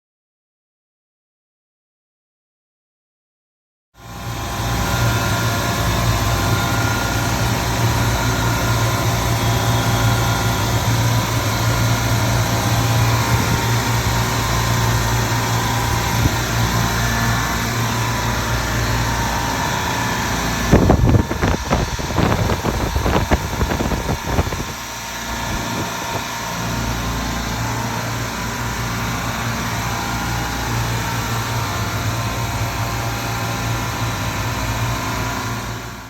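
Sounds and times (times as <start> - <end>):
compressors humming: 4.1 - 35.8.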